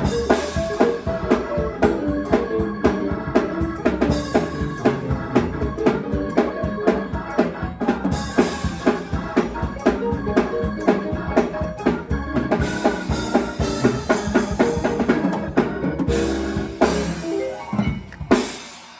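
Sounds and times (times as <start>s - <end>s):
drum kit fast rhythm: 0.0s - 18.9s
held chords: 0.0s - 18.9s.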